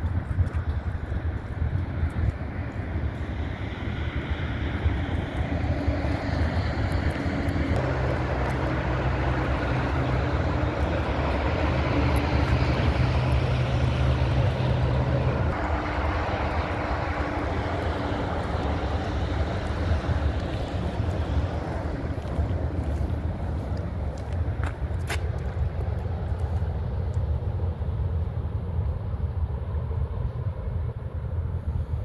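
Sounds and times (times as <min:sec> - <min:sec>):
distant engine drone: 0:00.0 - 0:32.0
low hum: 0:00.0 - 0:32.0
rushing wind-like noise: 0:00.0 - 0:32.0.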